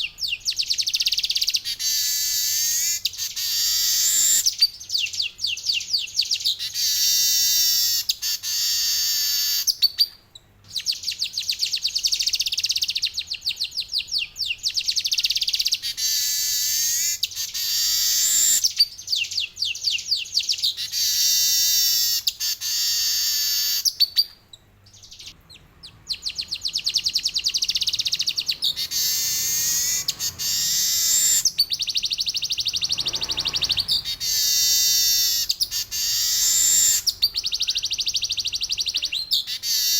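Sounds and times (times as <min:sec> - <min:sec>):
weaver bird buzzy trills: 0:00.0 - 0:10.0, 0:10.7 - 0:39.9.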